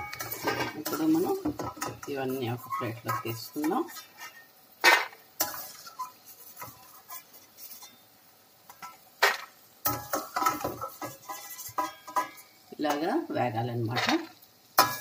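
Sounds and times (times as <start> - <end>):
metal spoon scraping steel pan: 0.0 - 8.0, 8.7 - 13.0, 14.8 - 15.0.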